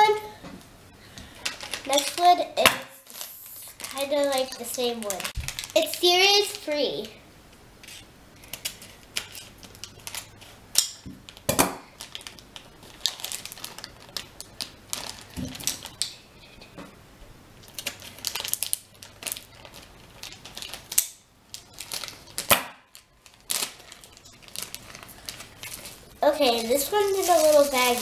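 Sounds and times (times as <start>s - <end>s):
plastic bag crinkling: 1.2s - 6.7s, 7.8s - 10.6s, 11.2s - 16.2s, 17.6s - 28.0s.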